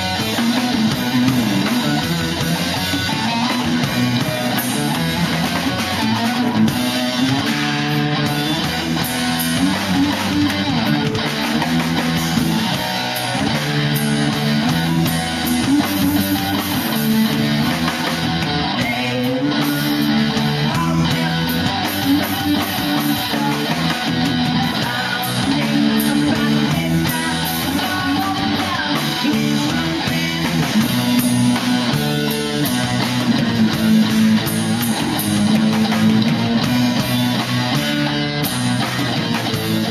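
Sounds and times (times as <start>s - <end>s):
rock music with electric guitar: 0.0s - 39.9s.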